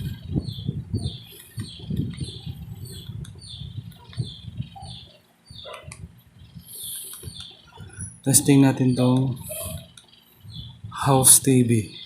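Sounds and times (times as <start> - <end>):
low thumps and rustling: 0.0 - 8.3, 9.4 - 11.0
chick peeping: 0.0 - 11.4.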